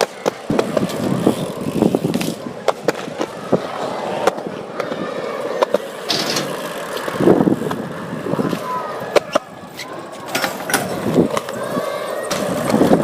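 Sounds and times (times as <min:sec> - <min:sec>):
bike tyres rolling on pavement: 0:00.0 - 0:13.0.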